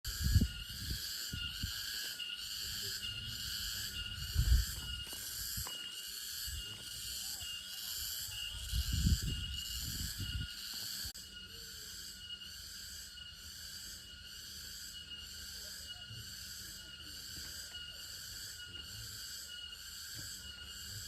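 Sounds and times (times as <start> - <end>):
insects chirring: 0.1 - 21.0.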